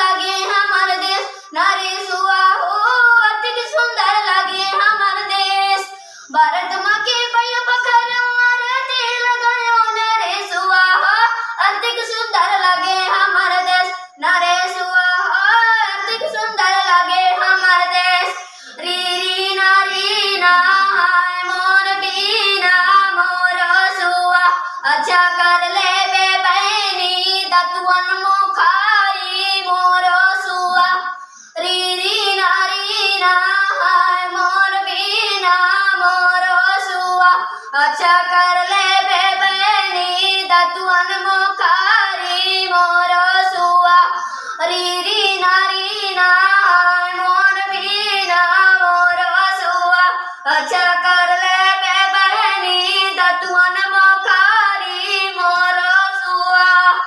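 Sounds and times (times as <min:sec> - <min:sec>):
girl singing unaccompanied: 0:00.0 - 0:57.0.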